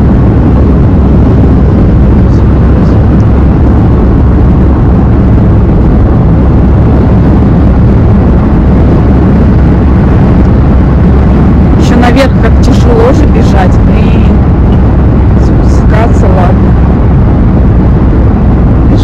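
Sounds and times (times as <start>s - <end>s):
car interior road and wind noise: 0.0s - 19.0s.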